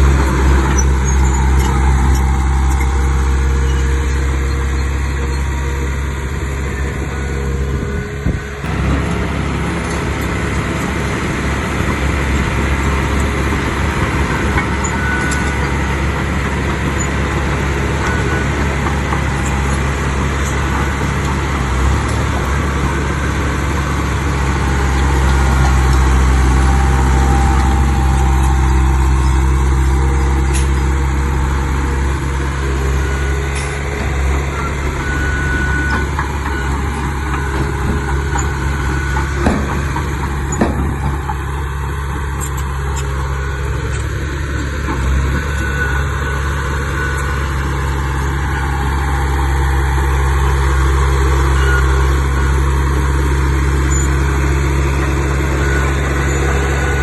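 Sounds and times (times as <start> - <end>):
heavy machinery diesel engine drone: 0.0 - 57.0.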